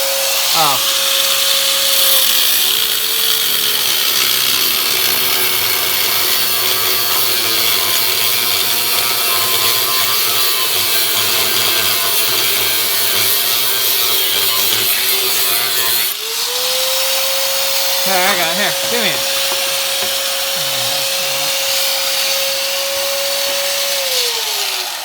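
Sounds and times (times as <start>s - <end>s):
cutoff wheel cutting metal: 0.0s - 25.0s.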